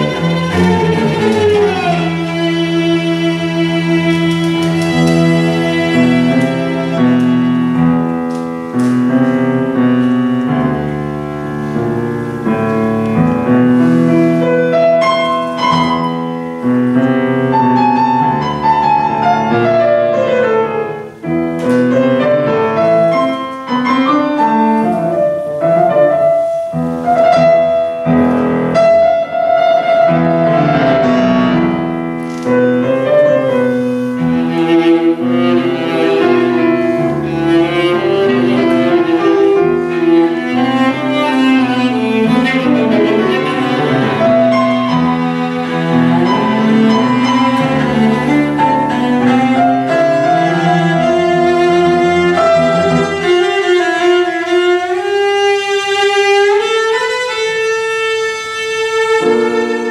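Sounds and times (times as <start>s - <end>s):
cello: 0.0s - 59.9s
piano: 0.0s - 59.9s
viola playing tango: 0.0s - 59.9s.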